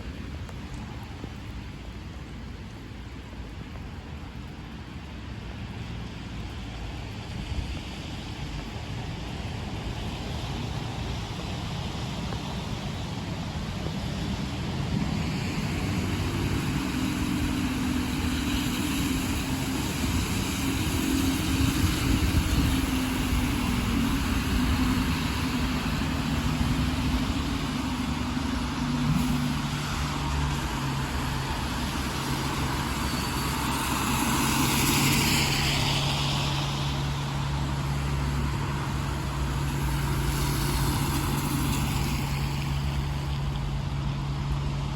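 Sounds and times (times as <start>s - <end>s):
tyre hiss on wet road: 0.0s - 44.9s
bus engines humming: 8.3s - 44.9s.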